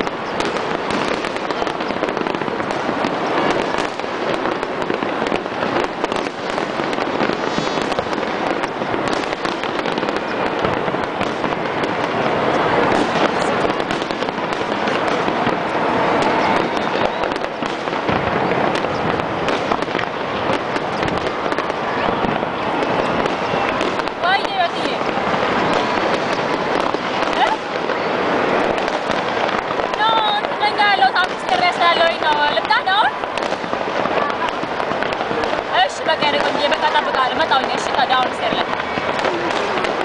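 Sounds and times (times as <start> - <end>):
fireworks popping and crackling: 0.0 - 40.0.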